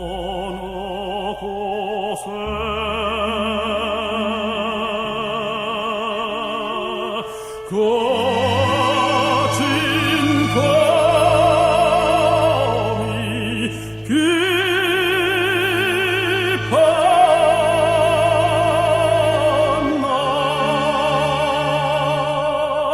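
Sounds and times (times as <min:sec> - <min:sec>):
operatic singing with vibrato: 0:00.0 - 0:22.9
orchestral accompaniment: 0:00.0 - 0:22.9.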